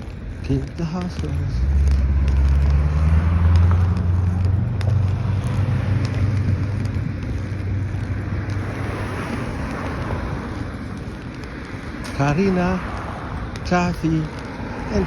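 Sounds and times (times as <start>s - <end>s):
street rush: 0.0s - 15.0s
vehicle engine passing: 0.0s - 15.0s.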